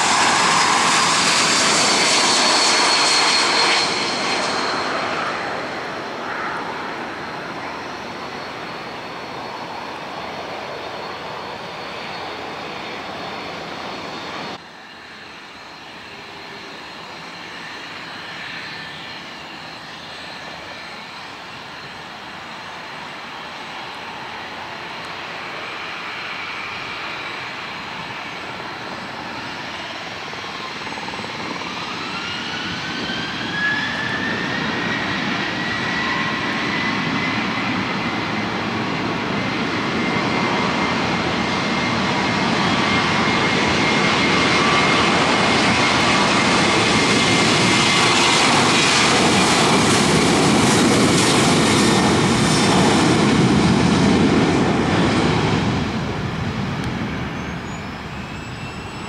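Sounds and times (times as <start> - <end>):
jet engine roar: 0.0 - 59.0
jet engines whining: 0.0 - 59.0.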